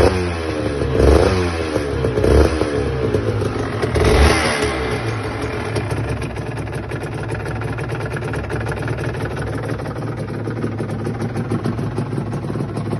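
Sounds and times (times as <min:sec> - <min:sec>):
motorcycle engine idling: 0:00.0 - 0:12.9
fast engine ticking: 0:02.0 - 0:12.9.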